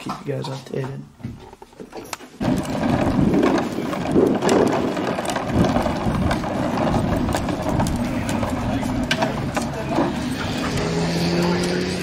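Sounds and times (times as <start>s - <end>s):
plastic wheels rattling on concrete: 0.0s - 12.0s.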